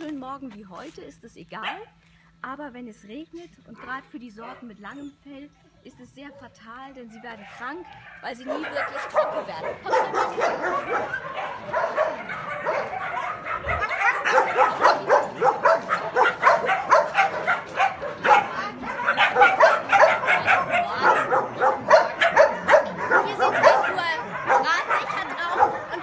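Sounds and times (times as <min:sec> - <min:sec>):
many dogs barking and yipping: 0:03.7 - 0:26.0.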